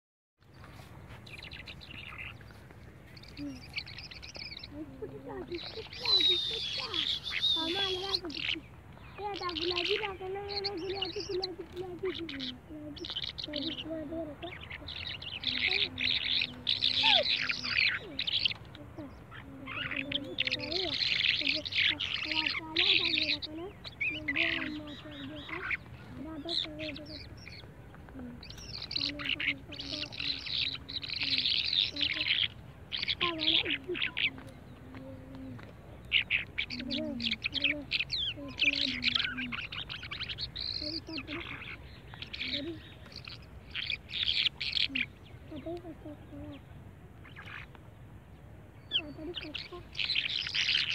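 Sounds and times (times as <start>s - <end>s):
small birds chirping: 0.4s - 50.9s.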